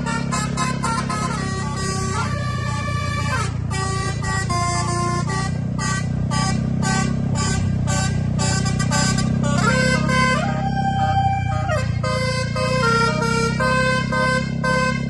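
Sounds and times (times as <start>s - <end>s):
air horn playing a melody: 0.0s - 15.0s
bus engine rumble: 0.0s - 15.0s.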